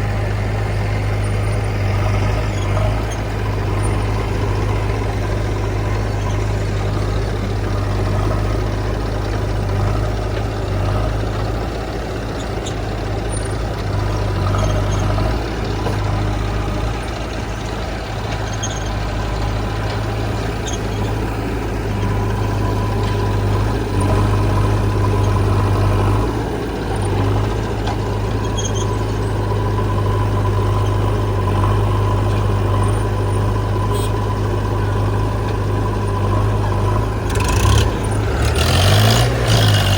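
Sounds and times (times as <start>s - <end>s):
heavy diesel engine humming: 0.0s - 39.9s.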